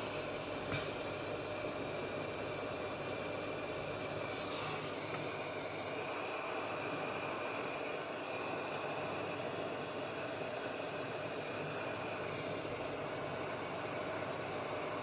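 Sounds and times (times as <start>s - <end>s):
faint high whine: 0.0s - 15.0s
fan-like blowing noise: 0.0s - 15.0s.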